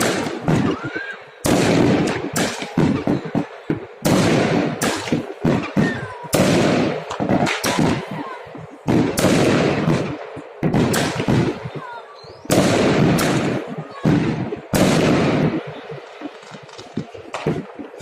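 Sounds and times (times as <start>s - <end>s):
firework booms with rolling rumble: 0.0s - 18.0s.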